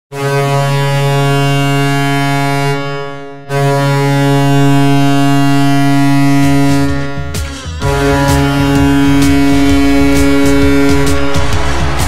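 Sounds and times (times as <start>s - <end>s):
low air horn blast: 0.1s - 12.0s.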